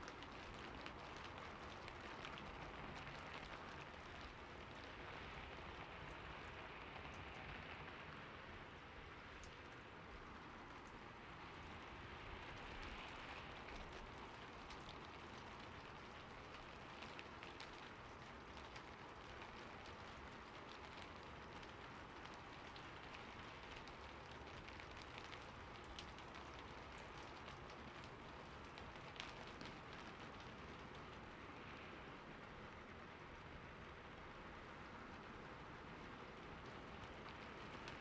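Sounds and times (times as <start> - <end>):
rain falling on a roof: 0.0 - 38.0.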